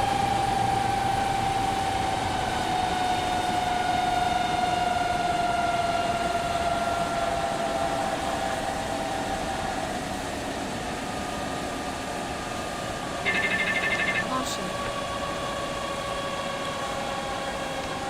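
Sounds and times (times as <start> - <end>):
turbine whine spooling down: 0.0 - 18.0.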